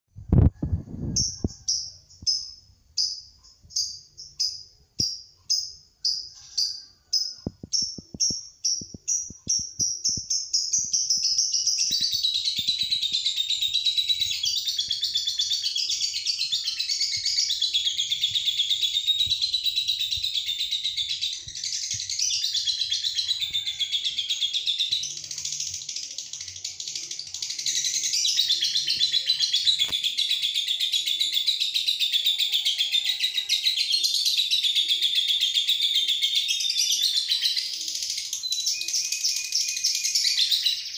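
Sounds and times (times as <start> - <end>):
lovebird chattering trill: 0.2 - 40.9.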